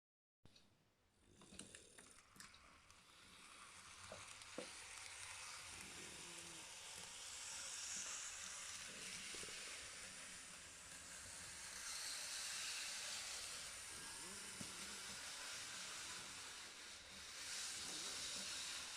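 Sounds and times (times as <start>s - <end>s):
model train motor whirring: 1.2s - 18.9s.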